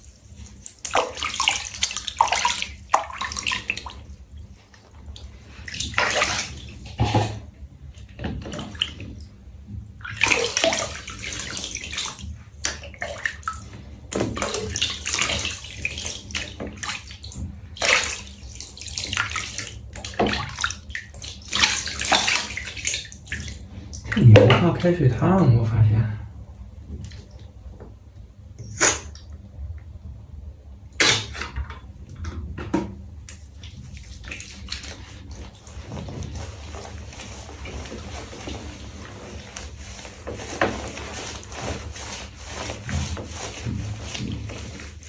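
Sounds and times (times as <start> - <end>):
water splashing in a tub: 0.0 - 25.4, 26.5 - 45.0.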